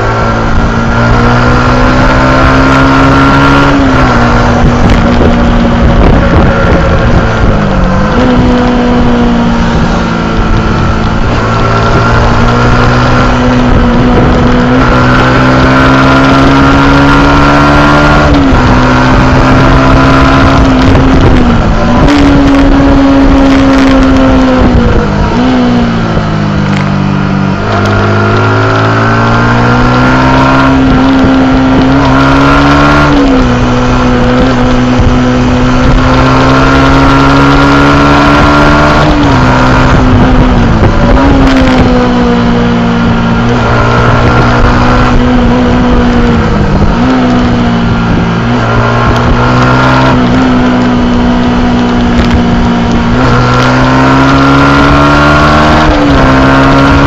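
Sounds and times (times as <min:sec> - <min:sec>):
motorcycle engine revving high: 0:00.0 - 0:57.0.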